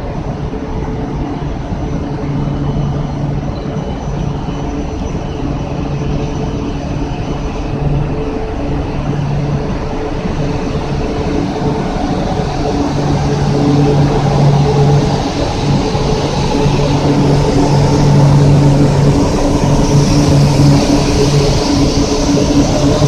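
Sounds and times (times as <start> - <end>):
train pulling out: 0.0 - 23.0.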